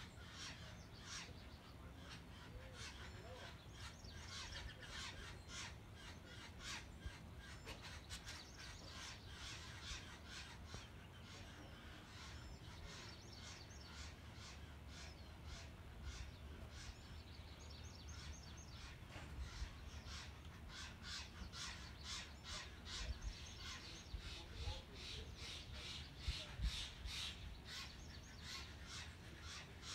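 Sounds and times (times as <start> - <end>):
bird chirps and calls: 0.0 - 29.9.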